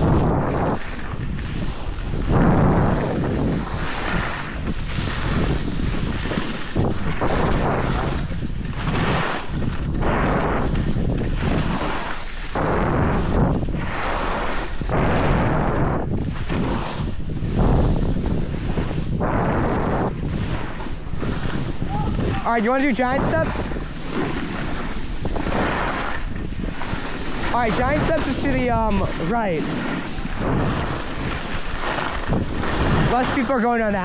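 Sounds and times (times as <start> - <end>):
skis sliding over snow: 0.0 - 34.0
wind rushing over microphone: 0.0 - 34.0.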